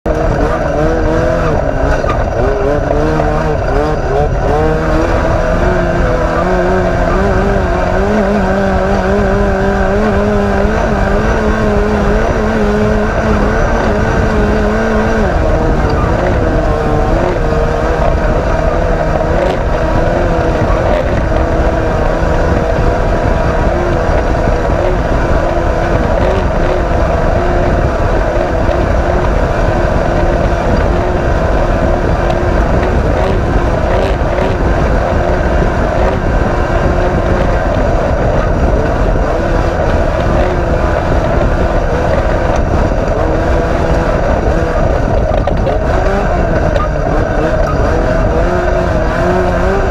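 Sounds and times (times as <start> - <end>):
heavy rumble: 0.0 - 49.9
race vehicle engine running hard: 0.0 - 49.9.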